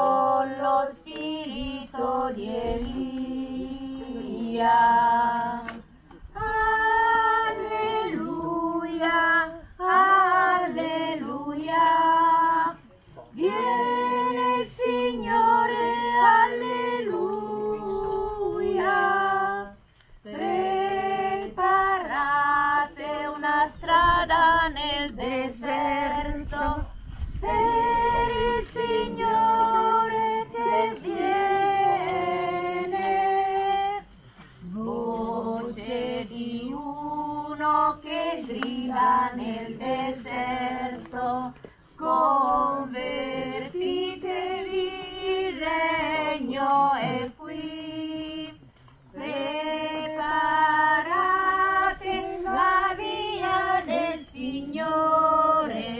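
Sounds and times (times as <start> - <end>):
choir singing a hymn: 0.0 - 55.9.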